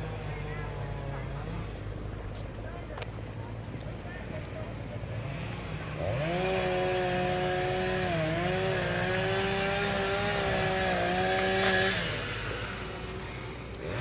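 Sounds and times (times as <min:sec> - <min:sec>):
chainsaw revving: 0:00.0 - 0:02.2, 0:04.4 - 0:14.0.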